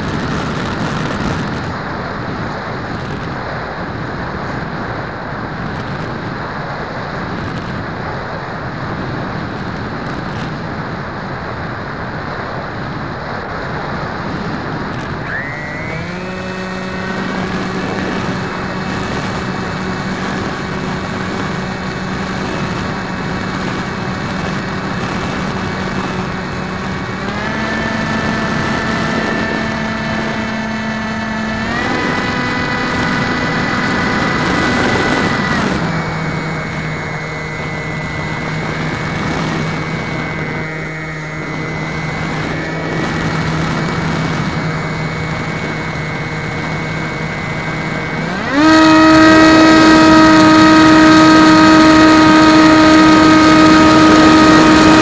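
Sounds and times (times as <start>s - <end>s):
electric motor and propeller whining: 0.0s - 55.0s.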